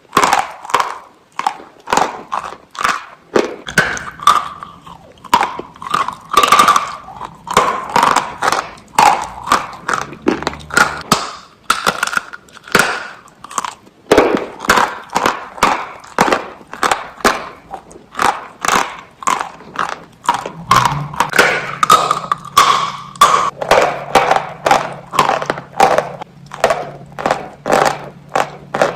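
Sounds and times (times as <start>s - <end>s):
biscuits crunching and chewing: 0.0s - 28.9s.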